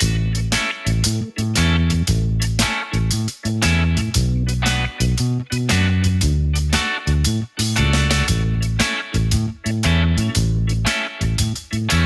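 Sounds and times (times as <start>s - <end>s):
funk-rock music with guitar: 0.0s - 12.0s.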